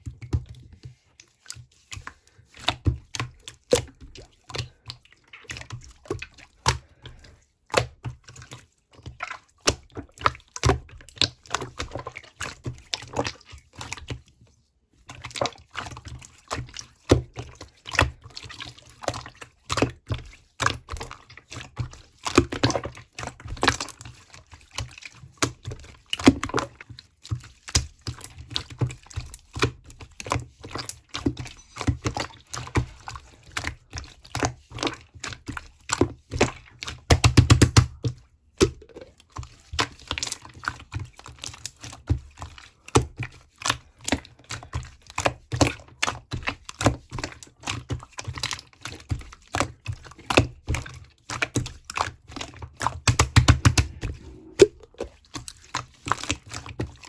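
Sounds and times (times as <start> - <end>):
wet clicks and taps: 0.0 - 14.2, 24.6 - 57.0.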